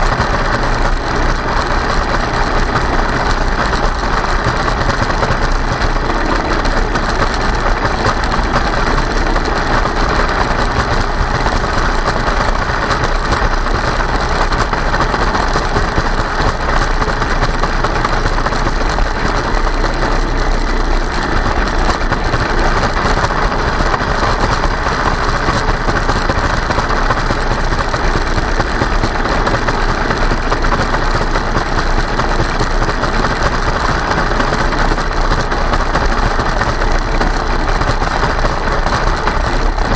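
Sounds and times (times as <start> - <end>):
electric motor and tracks running: 0.0 - 39.9
rattling clatter: 0.0 - 39.9.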